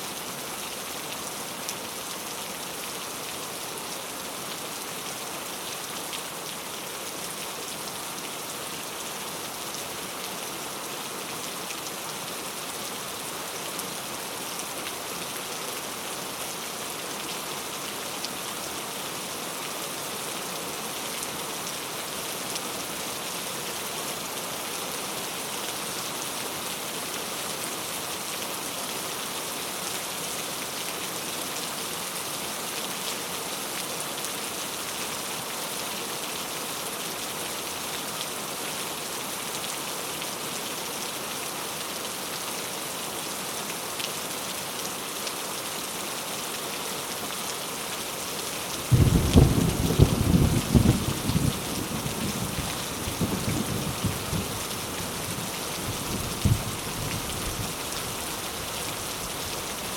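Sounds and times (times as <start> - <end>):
heavy rain falling: 0.1 - 59.9.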